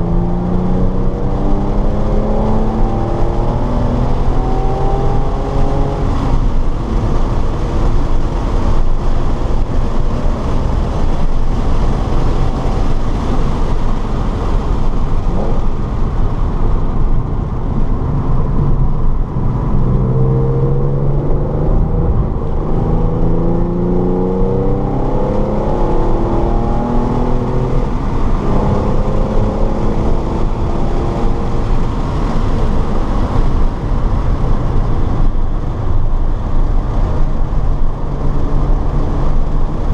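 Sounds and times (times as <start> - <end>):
car engine accelerating: 0.0 - 39.9
road and wind noise inside car: 0.0 - 39.9.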